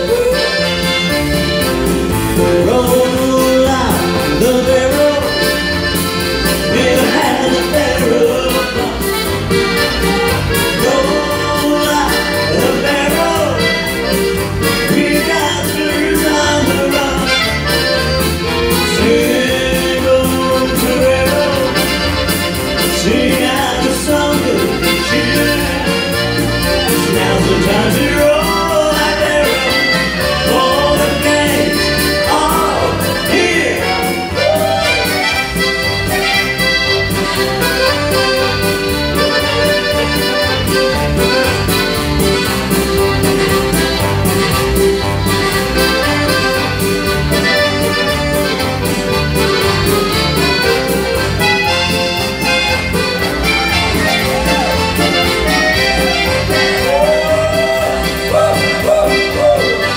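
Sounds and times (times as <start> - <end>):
accordion playing dance tune: 0.0 - 59.9
steady bass accompaniment: 0.0 - 59.9.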